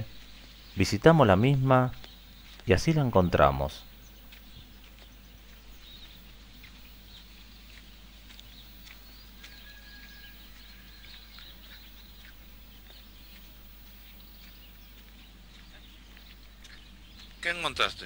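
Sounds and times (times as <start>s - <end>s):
birds chirping and calling: 0.0s - 18.0s
faint outdoor background: 0.0s - 18.0s.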